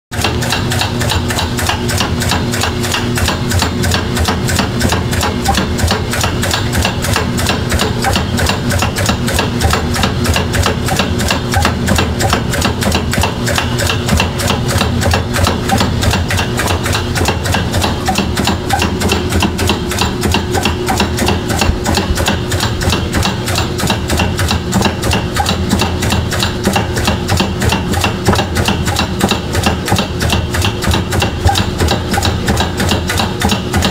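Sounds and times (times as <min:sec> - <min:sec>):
washing machine motor knocking: 0:00.1 - 0:33.9
low motor hum: 0:00.2 - 0:33.9.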